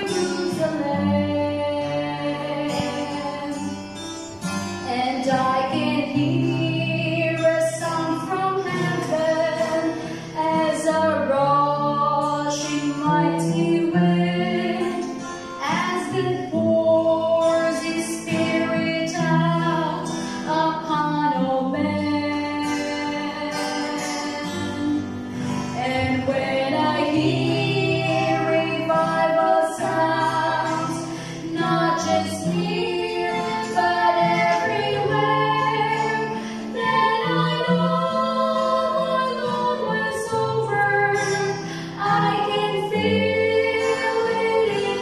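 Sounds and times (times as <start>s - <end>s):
acoustic guitar: 0.0s - 45.0s
two women singing: 0.0s - 45.0s.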